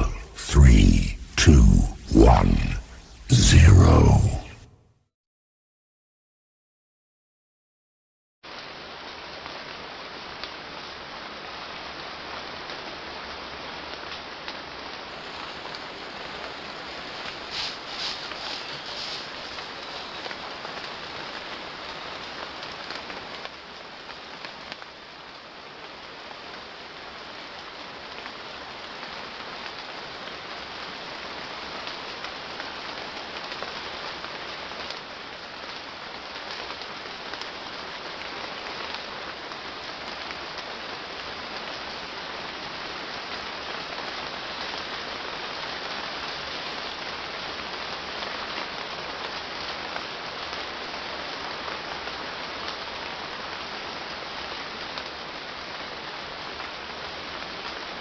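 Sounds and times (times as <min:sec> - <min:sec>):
heavy rain falling: 0:00.0 - 0:04.6, 0:08.5 - 0:58.0.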